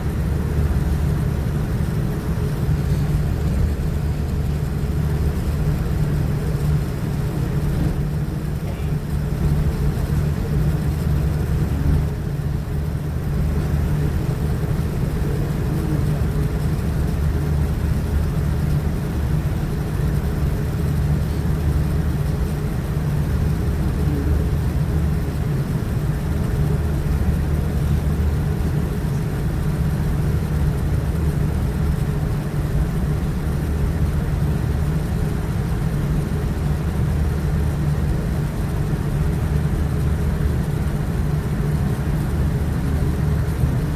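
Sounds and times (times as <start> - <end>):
low drone of jet engines: 0.0 - 43.9.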